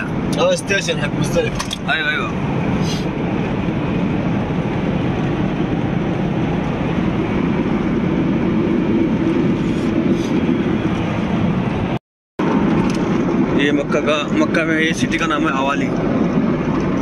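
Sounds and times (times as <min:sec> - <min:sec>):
car interior road noise: 0:00.0 - 0:17.0.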